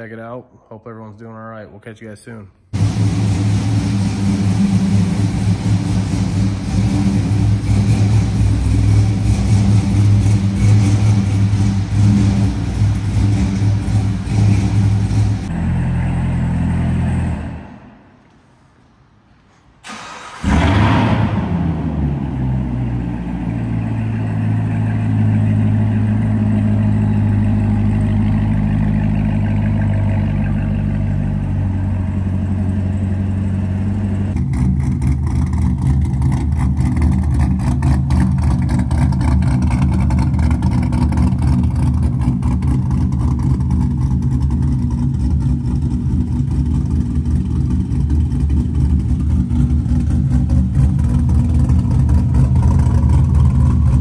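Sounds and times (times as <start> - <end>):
car engine starting and idling: 2.7 - 18.6, 19.5 - 54.0
car engine idling choppily: 2.8 - 17.2, 21.9 - 54.0.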